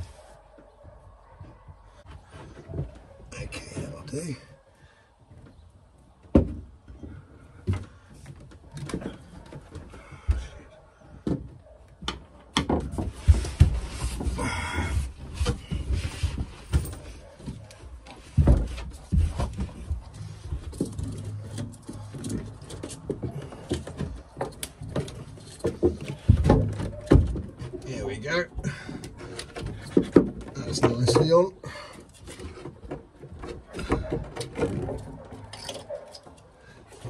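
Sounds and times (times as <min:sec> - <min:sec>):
hose knocks and bumps: 0:06.2 - 0:36.4.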